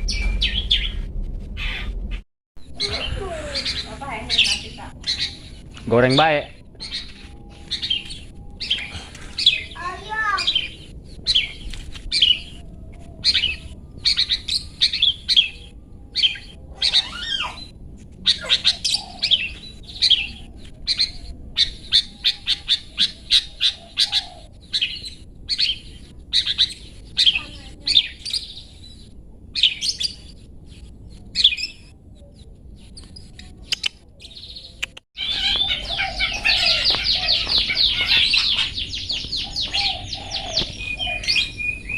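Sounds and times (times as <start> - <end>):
shrike calling: 2.6 - 28.9, 33.5 - 41.9.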